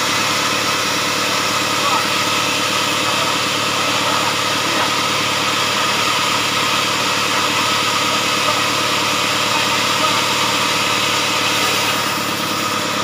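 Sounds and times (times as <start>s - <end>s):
saw whine: 0.0s - 13.0s
sawmill engine drone: 0.0s - 13.0s.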